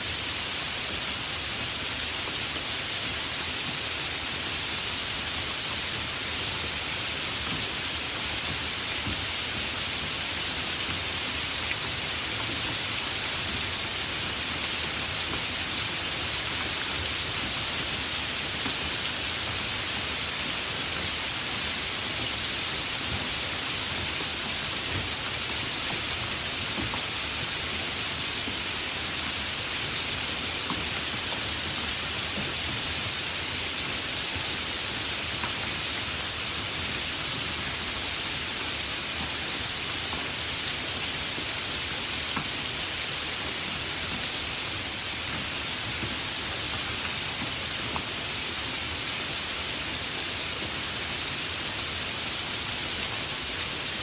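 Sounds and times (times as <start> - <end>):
light rain hissing: 0.0 - 54.0.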